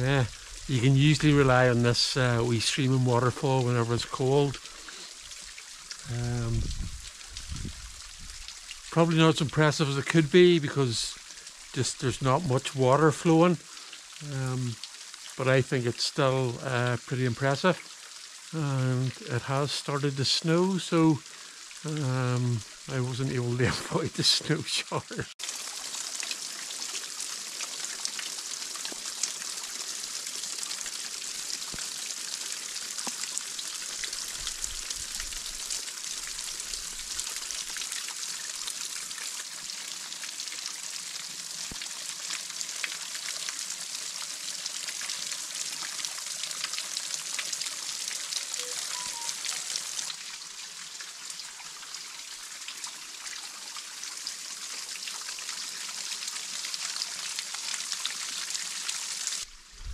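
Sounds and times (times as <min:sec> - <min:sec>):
water dripping: 0:00.0 - 0:59.5
small waterfall trickling and splashing: 0:00.0 - 0:59.9.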